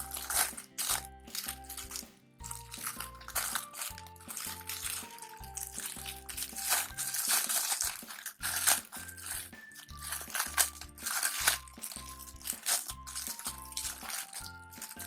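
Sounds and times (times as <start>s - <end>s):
music with rhythmic bass line: 0.0s - 15.0s
plastic packaging crinkling: 0.0s - 15.0s.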